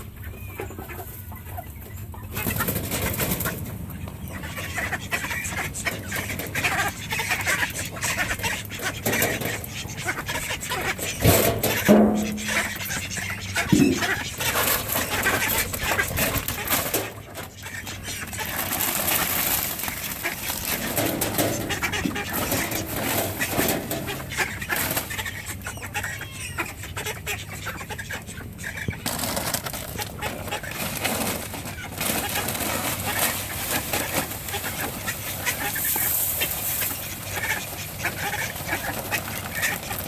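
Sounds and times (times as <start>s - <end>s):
chickens clucking: 0.0s - 40.0s
rustling and scraping: 2.3s - 25.8s, 28.8s - 40.0s.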